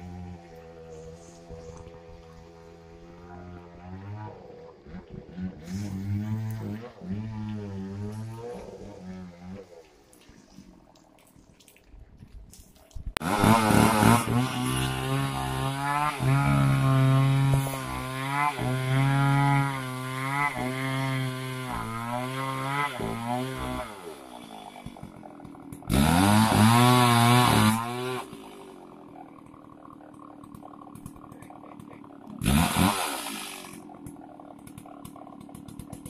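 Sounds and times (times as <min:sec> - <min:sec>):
chainsaw cutting through trunk: 0:00.0 - 0:10.8, 0:13.2 - 0:36.0.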